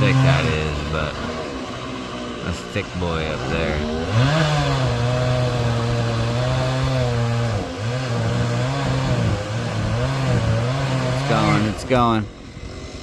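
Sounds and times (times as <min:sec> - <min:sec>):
chainsaw cutting tree trunk: 0:00.0 - 0:13.0.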